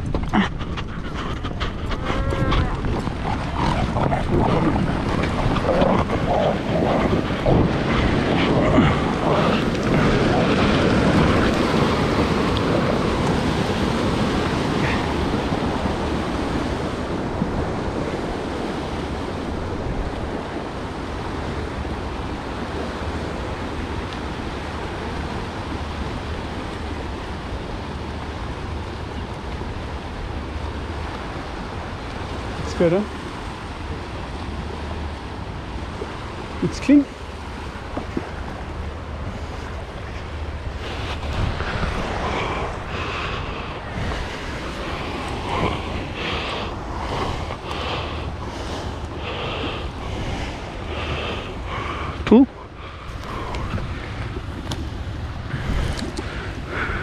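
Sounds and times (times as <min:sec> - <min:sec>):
surf on sandy shore: 0:00.0 - 0:57.0
wind on microphone: 0:00.0 - 0:57.0.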